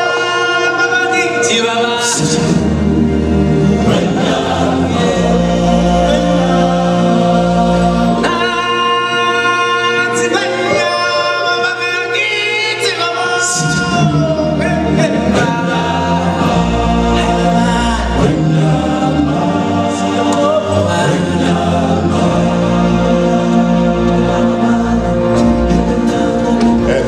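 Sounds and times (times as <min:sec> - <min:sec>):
choir singing slow chant: 0:00.0 - 0:11.5, 0:13.5 - 0:27.0.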